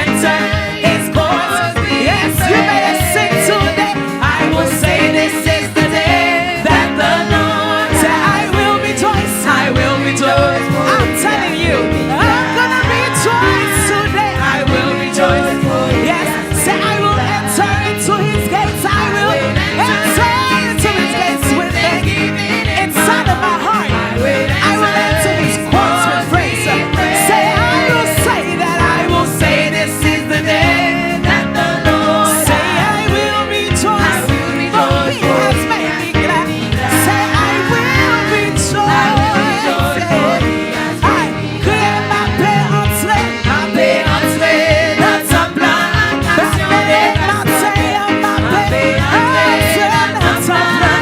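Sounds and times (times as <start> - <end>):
gospel band playing: 0.0 - 51.0
steady drum beat: 0.0 - 51.0
wavering lead vocal: 0.0 - 51.0.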